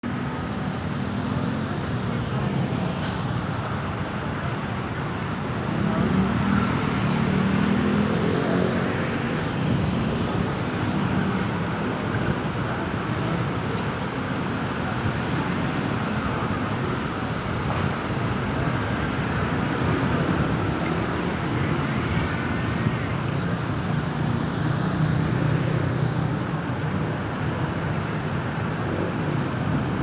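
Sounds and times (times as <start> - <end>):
road traffic passing: 0.0 - 30.0.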